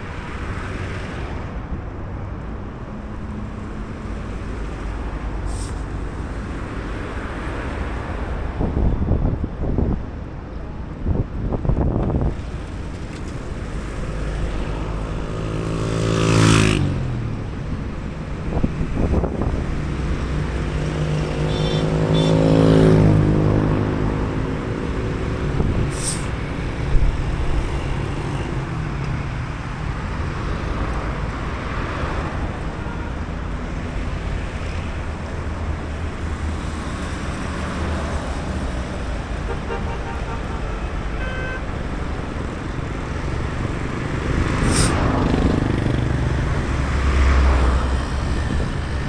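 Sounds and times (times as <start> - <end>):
street traffic rumble: 0.0 - 49.0
vehicles passing close by: 0.0 - 49.0.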